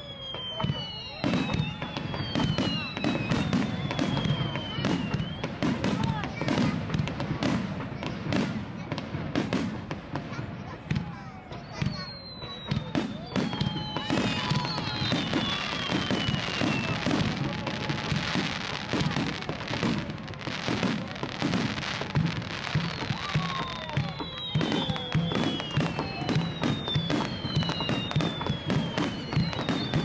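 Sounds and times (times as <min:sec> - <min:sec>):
fireworks bangs and crackling: 0:00.0 - 0:30.0
fireworks whistles falling in pitch: 0:00.0 - 0:30.0.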